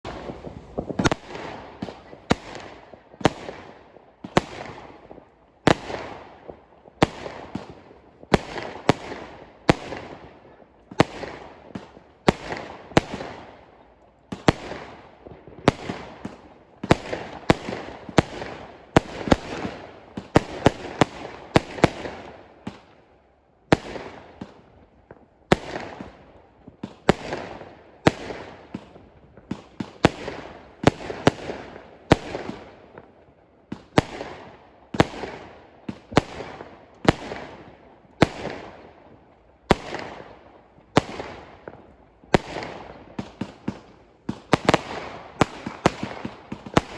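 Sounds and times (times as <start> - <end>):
fireworks bangs with echo: 0.0 - 23.0, 23.7 - 46.9.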